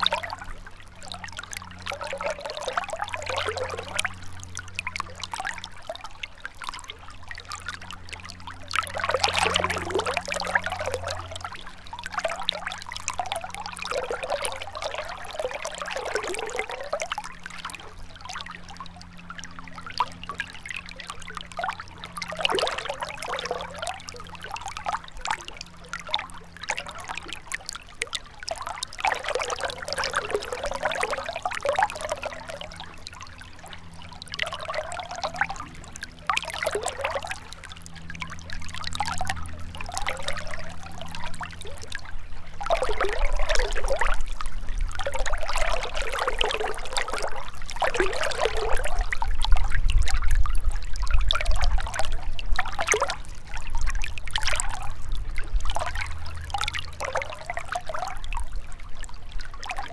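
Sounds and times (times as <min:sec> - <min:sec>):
river water trickling: 0:00.0 - 0:59.9.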